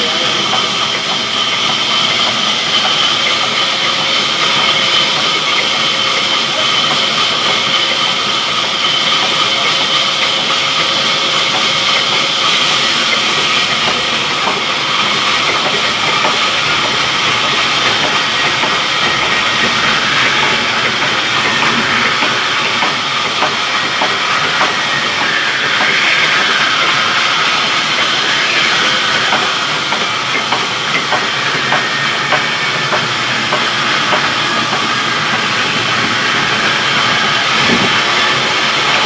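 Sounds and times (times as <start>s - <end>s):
band saw cutting wood: 0.0s - 39.0s.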